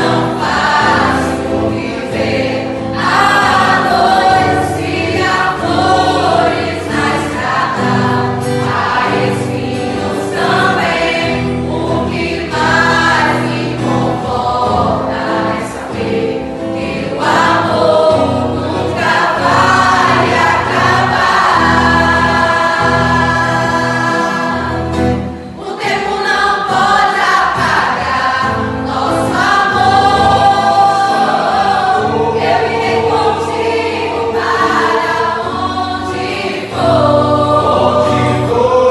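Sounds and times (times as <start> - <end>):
choir singing gospel: 0.0 - 38.9.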